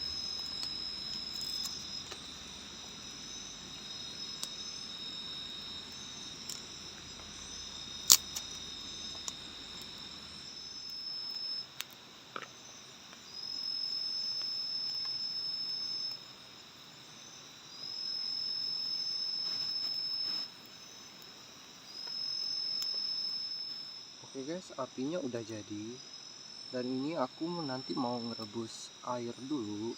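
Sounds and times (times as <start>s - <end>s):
louder insect call: 0.0s - 29.9s
night insects trilling: 0.0s - 29.9s.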